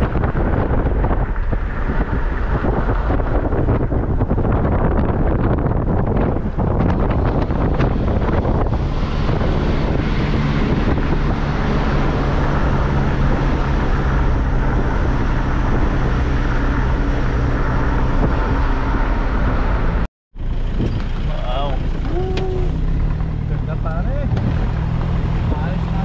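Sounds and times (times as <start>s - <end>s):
car engine hum: 0.0s - 26.0s
wind and tyre noise: 0.0s - 26.0s.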